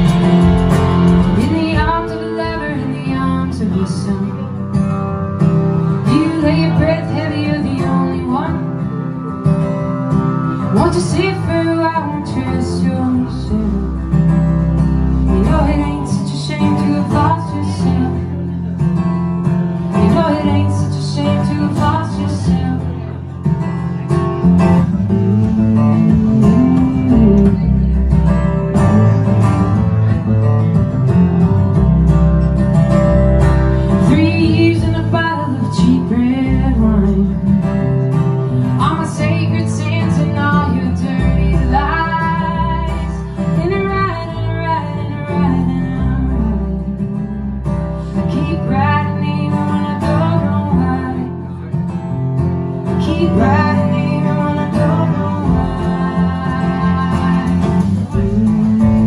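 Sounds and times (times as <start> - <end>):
acoustic guitar: 0.0 - 59.0
plucked upright bass: 0.0 - 59.0.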